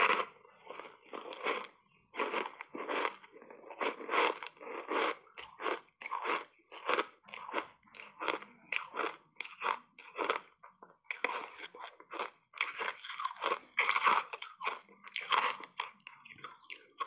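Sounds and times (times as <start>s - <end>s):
ice crunching while chewed: 0.0s - 17.0s.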